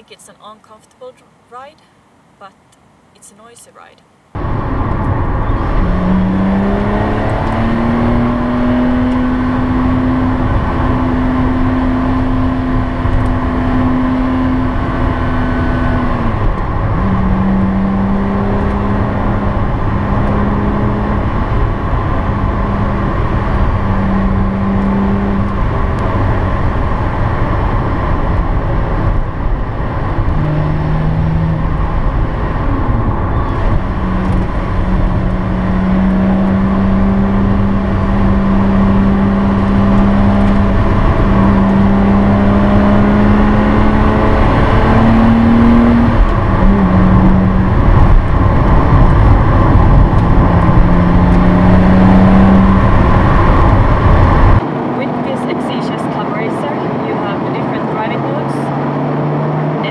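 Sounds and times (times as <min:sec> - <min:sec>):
road and tyre noise: 0:00.0 - 0:59.9
car engine accelerating: 0:04.3 - 0:59.9.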